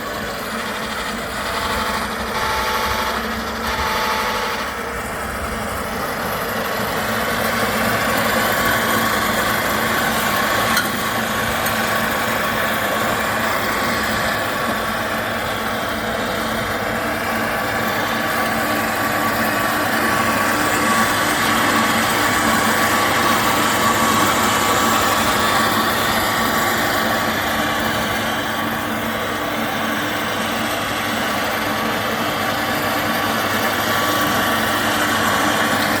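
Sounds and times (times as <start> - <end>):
electric lawn mower running: 0.0 - 36.0.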